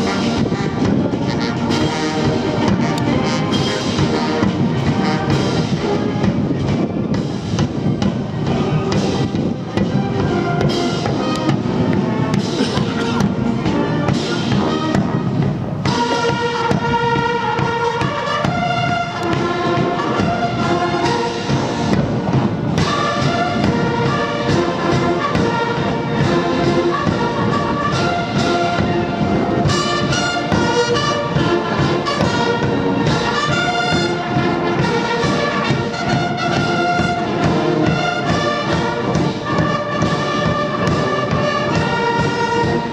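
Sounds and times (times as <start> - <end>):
drumming: 0.0 - 42.9
military band playing a march: 0.0 - 42.9.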